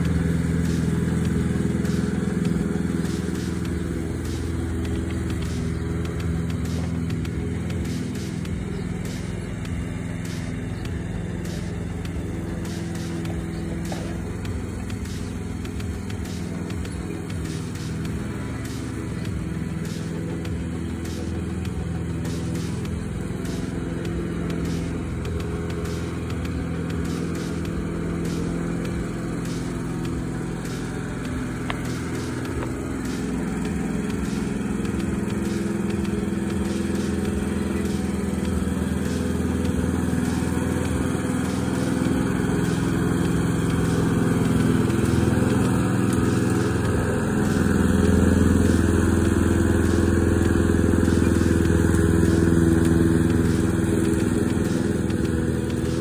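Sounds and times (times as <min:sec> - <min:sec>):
lawn mower cutting grass: 0:00.0 - 0:56.0.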